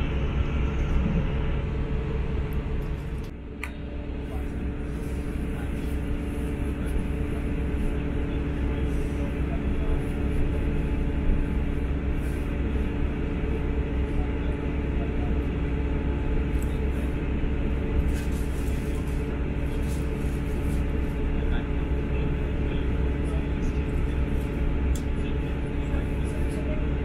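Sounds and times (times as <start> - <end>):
diesel engine: 0.0 - 27.0
steady hum: 0.0 - 27.0.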